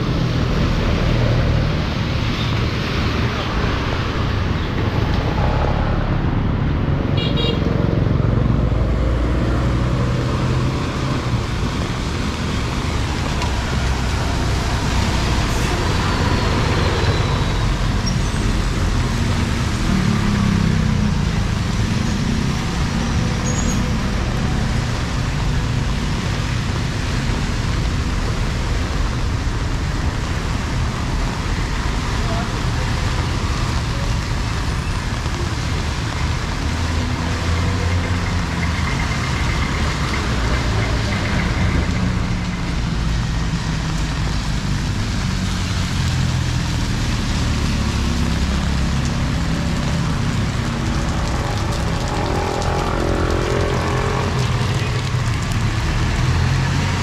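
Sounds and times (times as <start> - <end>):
rain hiss: 0.0 - 6.2, 8.8 - 57.0
vehicle engines passing: 0.0 - 57.0.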